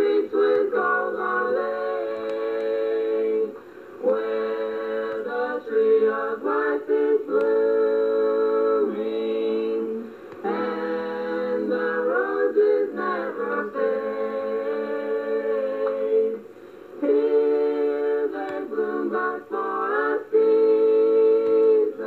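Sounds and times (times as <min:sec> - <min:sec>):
vocal group singing in harmony: 0:00.0 - 0:22.0.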